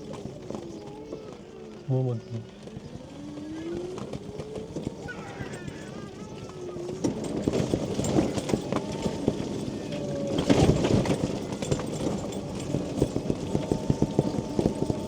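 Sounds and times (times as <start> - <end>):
rain pattering on a canopy: 0.0 - 15.0.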